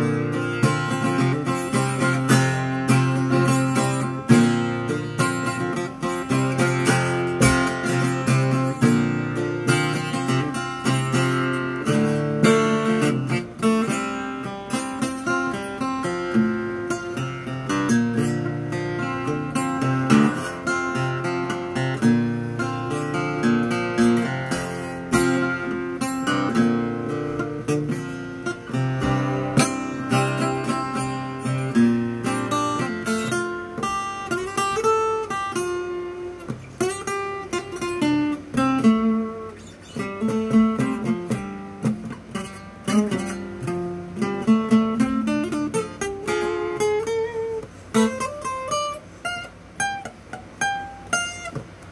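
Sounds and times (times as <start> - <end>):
acoustic guitar flatpicked: 0.0 - 51.9.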